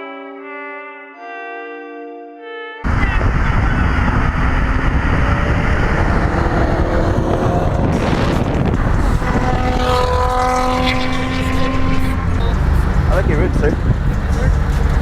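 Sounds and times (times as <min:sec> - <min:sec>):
car engines and road noise: 0:02.8 - 0:15.0
wind buffeting microphone: 0:02.8 - 0:15.0.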